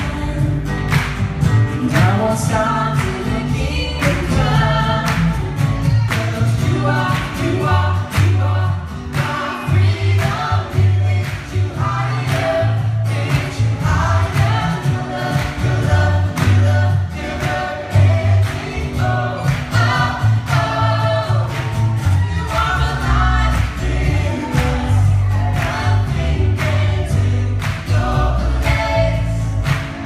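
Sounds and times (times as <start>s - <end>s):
bass guitar: 0.0s - 30.0s
several voices singing: 0.0s - 30.0s
steady drum beat: 0.0s - 30.0s.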